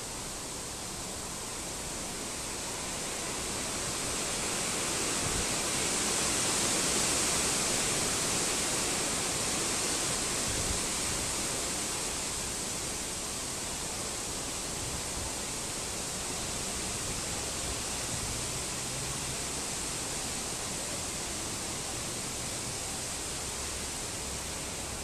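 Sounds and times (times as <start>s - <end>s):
wind rushing through leaves: 0.0s - 25.0s.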